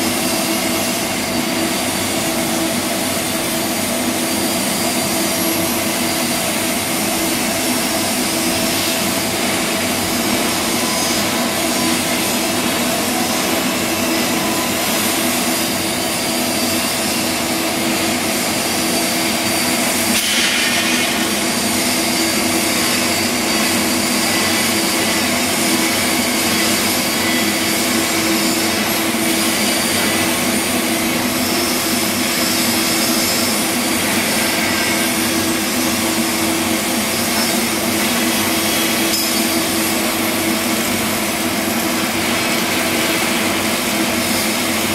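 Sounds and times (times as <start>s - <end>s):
welding arc hissing: 0.0s - 44.9s.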